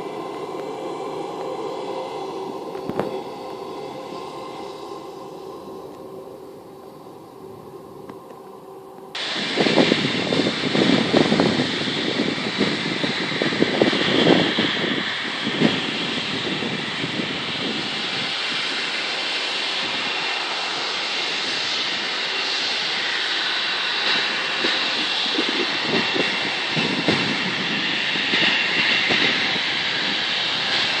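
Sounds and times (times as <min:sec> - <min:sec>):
airplane engines roaring: 0:00.0 - 0:31.0.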